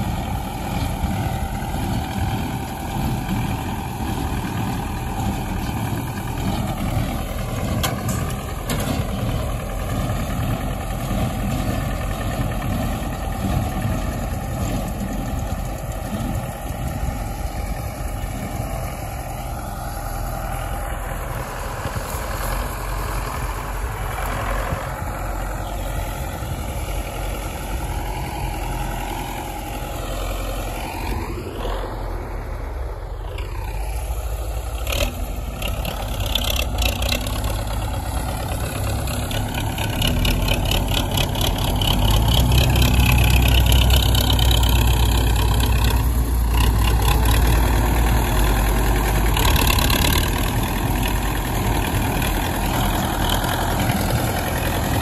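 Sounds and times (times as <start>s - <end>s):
hay baler: 0.0s - 55.0s
tractor diesel engine running: 0.0s - 55.0s.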